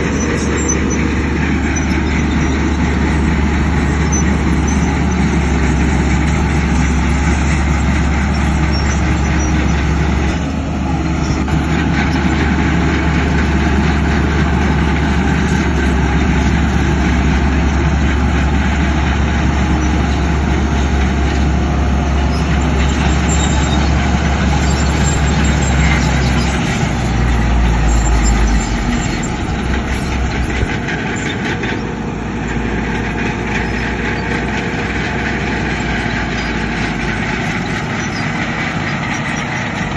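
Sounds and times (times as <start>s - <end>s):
heavy machinery diesel drone: 0.0s - 39.9s.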